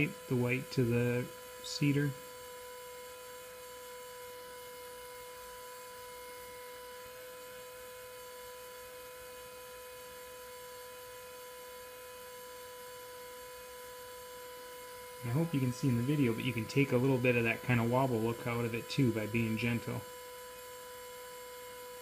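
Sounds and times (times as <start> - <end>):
electric motor hum: 0.0 - 22.0.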